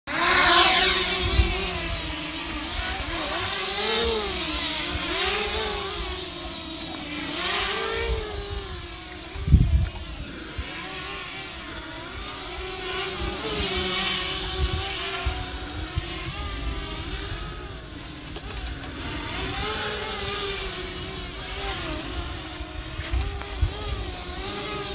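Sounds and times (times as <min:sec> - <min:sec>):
quadcopter propellers buzzing: 0:00.0 - 0:24.9.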